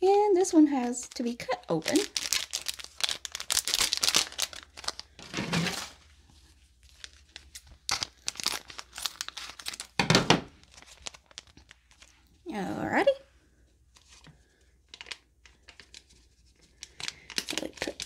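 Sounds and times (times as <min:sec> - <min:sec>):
foil packet crinkling: 0:00.8 - 0:12.4, 0:14.0 - 0:18.0.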